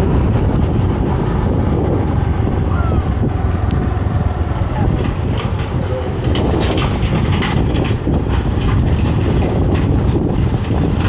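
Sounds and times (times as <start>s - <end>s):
motorcycle engine and road rumble: 0.0s - 11.0s
wind rushing over microphone: 0.0s - 11.0s.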